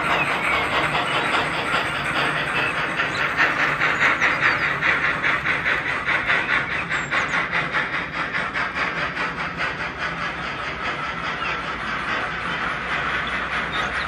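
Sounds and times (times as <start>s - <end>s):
model steam train chuffing: 0.0s - 14.0s
wheels clicking on track: 0.0s - 14.0s.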